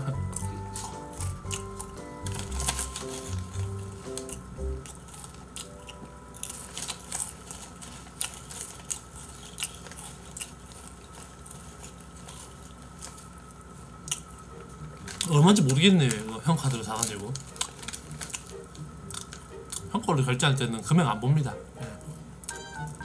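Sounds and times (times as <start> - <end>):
crunchy snack chewing: 0.0 - 19.9.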